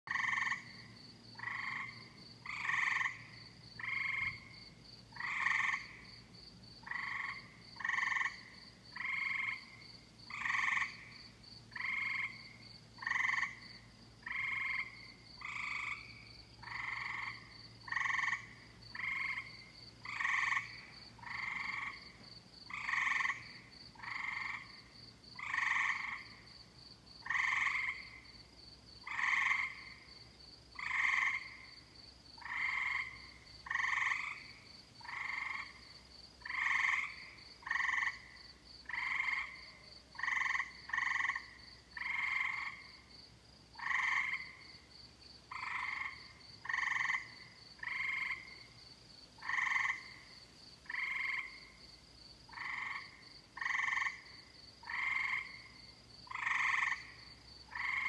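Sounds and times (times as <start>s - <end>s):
tree frogs trilled calls: 0.1s - 43.1s, 43.7s - 44.9s, 45.5s - 48.8s, 49.4s - 58.0s.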